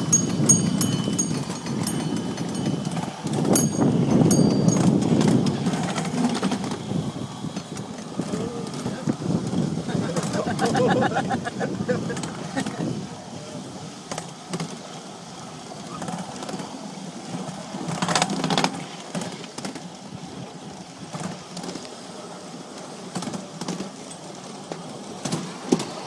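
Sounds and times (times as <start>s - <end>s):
trolley ride rumbling: 0.0s - 26.0s.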